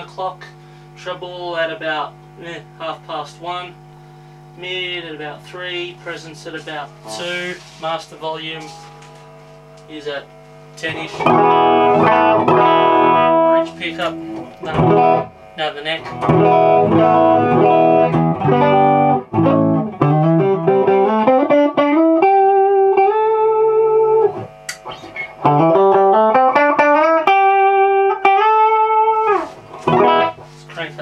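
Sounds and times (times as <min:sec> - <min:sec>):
crunchy electric guitar: 0:03.8 - 0:31.0.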